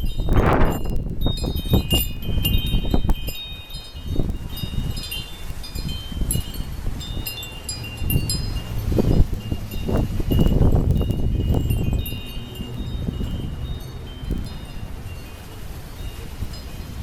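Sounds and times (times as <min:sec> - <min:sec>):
wind chimes ringing: 0:00.0 - 0:17.0
wind gusts buffeting microphone: 0:00.0 - 0:17.0.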